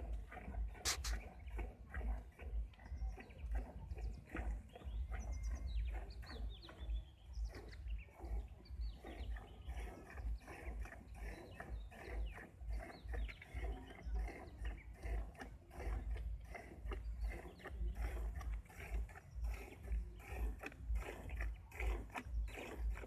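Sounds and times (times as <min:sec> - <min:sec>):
low rhythmic pulsing: 0:00.0 - 0:23.0
small birds chirping: 0:00.0 - 0:23.0.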